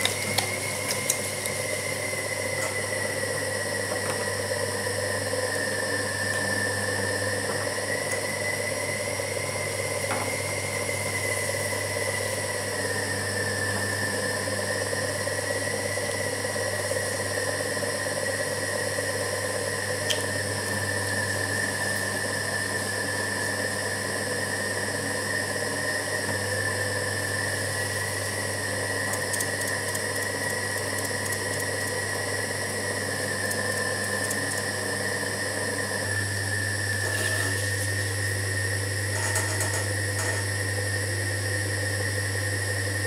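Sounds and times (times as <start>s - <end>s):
pottery wheel motor whining: 0.0s - 43.0s.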